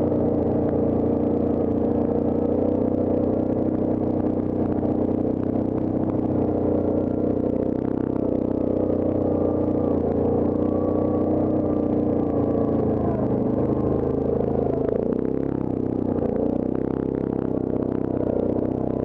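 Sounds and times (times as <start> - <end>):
quad bike engine running: 0.0 - 19.0.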